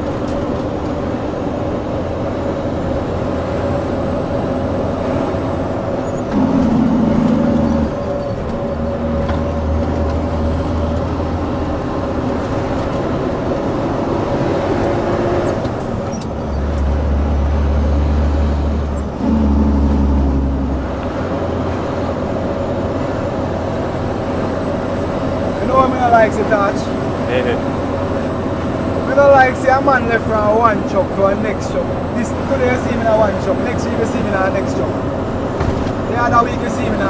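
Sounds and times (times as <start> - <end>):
heavy truck engine running: 0.0 - 37.0.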